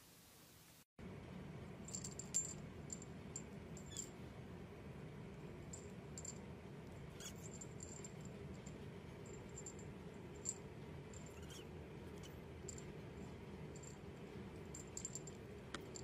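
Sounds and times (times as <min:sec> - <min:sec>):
low hum: 0:01.0 - 0:16.0.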